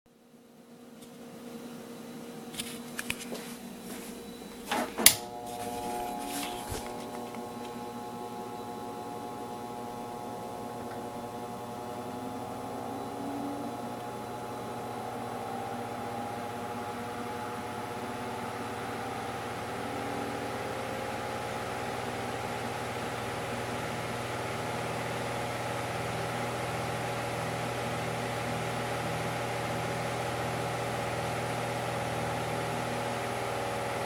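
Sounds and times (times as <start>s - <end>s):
electric fan motor humming: 0.6s - 34.0s.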